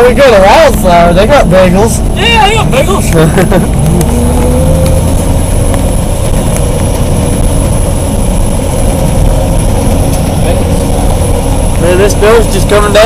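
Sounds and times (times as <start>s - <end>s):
faint steady whine: 0.0s - 13.0s
truck engine rumbling: 0.0s - 13.0s.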